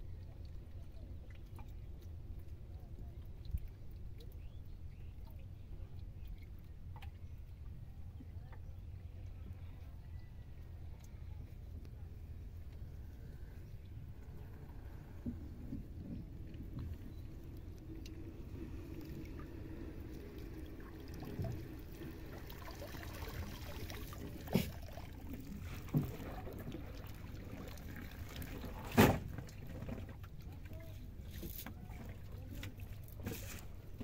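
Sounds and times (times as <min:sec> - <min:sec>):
water and wind rumble: 0:00.0 - 0:34.0.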